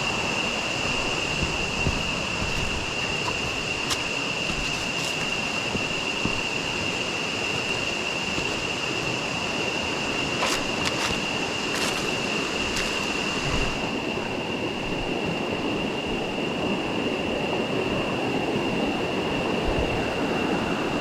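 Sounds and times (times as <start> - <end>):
flowing river water: 0.0 - 21.0.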